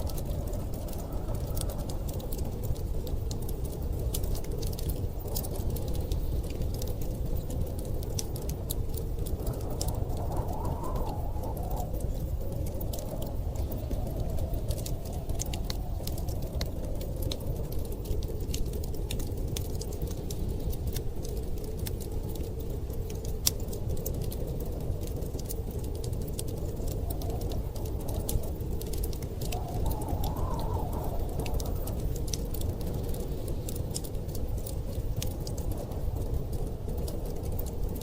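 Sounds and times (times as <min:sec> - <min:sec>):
storm wind rumble: 0:00.0 - 0:38.0
wood fire crackling and popping: 0:00.0 - 0:38.0.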